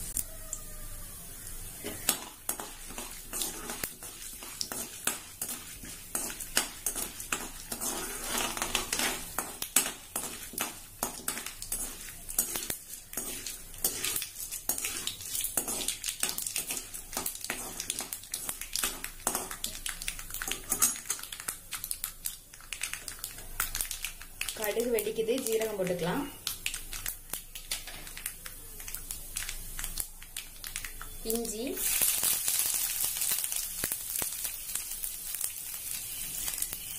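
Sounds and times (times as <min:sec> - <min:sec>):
mustard seeds popping in hot oil: 0:00.0 - 0:36.9.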